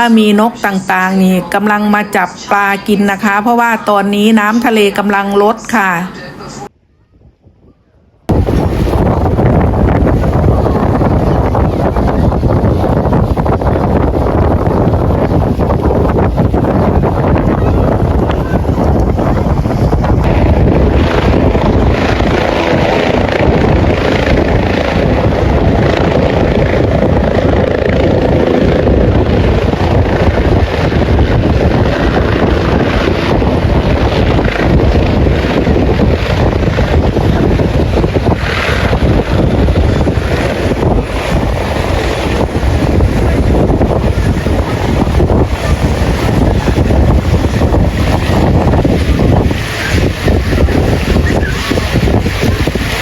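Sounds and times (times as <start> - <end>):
strong wind buffeting microphone: 0.0 - 53.0.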